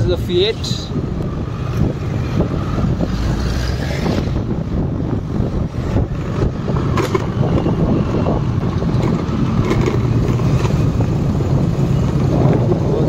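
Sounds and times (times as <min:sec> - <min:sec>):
car engines in traffic: 0:00.0 - 0:13.0.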